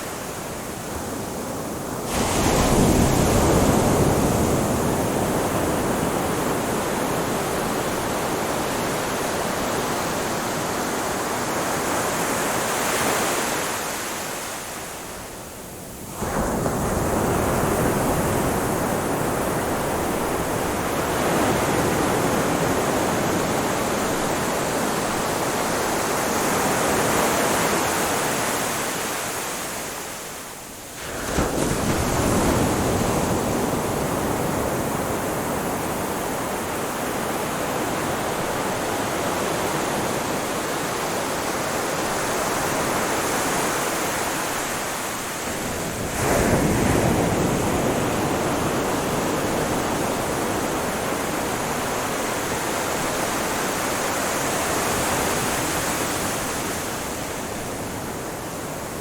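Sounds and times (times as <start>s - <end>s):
ocean waves crashing: 0.0s - 15.0s, 16.1s - 30.2s, 30.9s - 59.0s
wash of surf: 0.0s - 15.0s, 16.1s - 59.0s.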